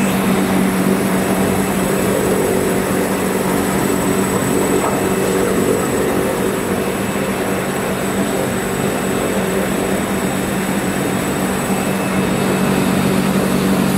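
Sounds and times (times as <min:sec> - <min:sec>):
machine drone: 0:00.0 - 0:13.9.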